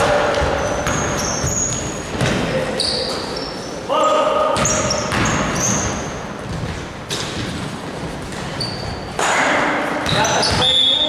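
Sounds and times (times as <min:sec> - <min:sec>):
basketballs bouncing on gym floor: 0:00.0 - 0:03.3, 0:04.6 - 0:11.0.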